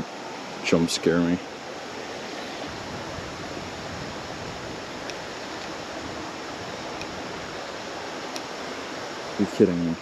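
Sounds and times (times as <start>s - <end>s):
water hissing at creek: 0.0s - 10.0s.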